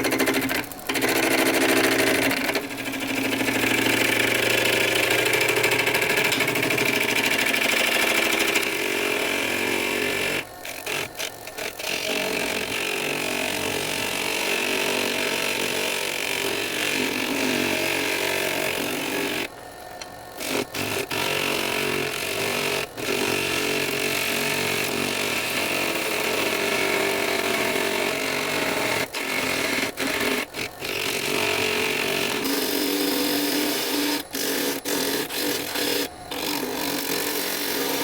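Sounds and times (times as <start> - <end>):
lathe tool cutting wood: 0.0 - 38.0.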